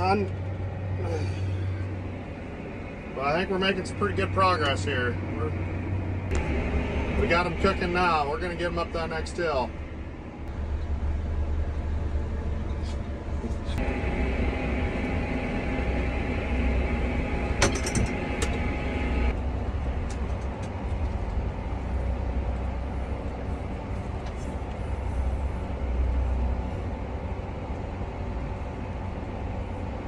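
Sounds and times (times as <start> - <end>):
high whine: 0.0 - 30.0
tractor engine rumbling under load: 0.0 - 30.0.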